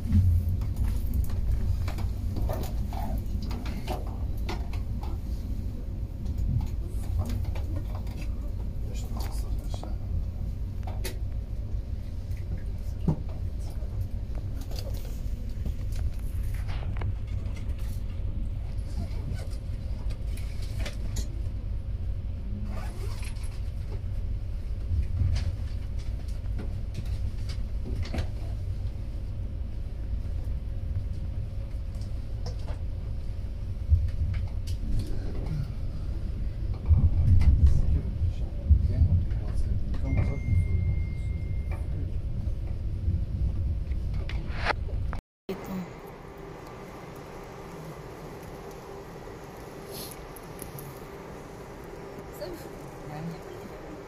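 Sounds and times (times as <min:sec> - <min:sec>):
faint steady hum: 0:00.0 - 0:54.0
train rumbling: 0:00.0 - 0:54.0.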